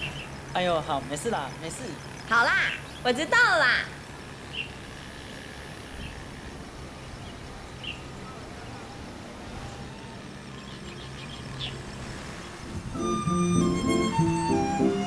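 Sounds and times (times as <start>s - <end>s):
roadside ambience rumble: 0.0s - 15.0s.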